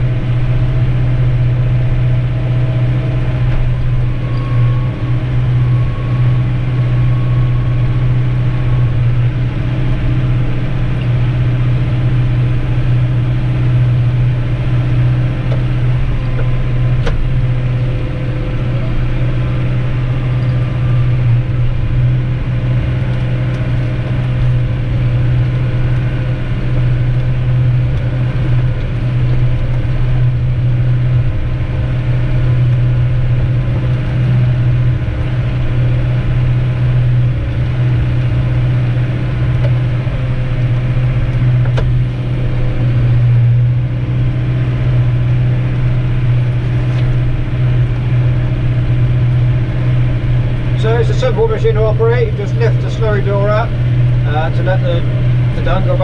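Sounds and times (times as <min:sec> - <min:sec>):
tractor engine humming: 0:00.0 - 0:56.0.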